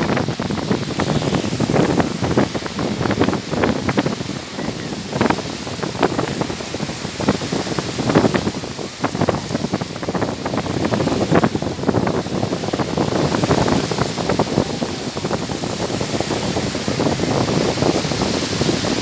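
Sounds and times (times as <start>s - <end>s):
waves washing on beach: 0.0s - 19.0s
wind buffeting microphone: 0.0s - 19.0s.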